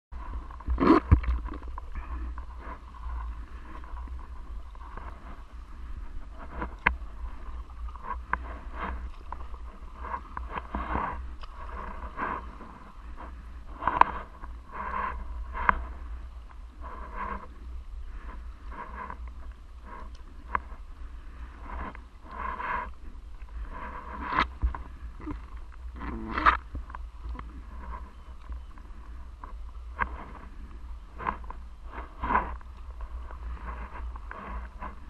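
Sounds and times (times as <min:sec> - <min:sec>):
paddle swishing through water: 0:00.1 - 0:35.0
wind rumble on microphone: 0:00.1 - 0:35.0.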